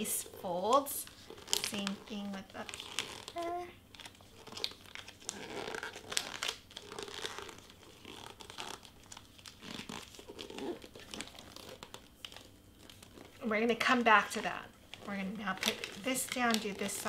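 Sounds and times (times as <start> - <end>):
wrapping paper crinkling: 0.0 - 17.0.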